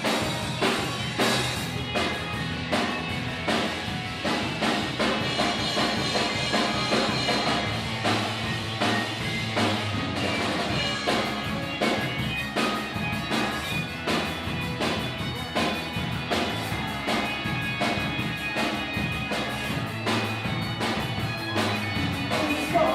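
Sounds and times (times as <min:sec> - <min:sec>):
band music: 0:00.0 - 0:22.9
drum kit beat: 0:00.0 - 0:22.9.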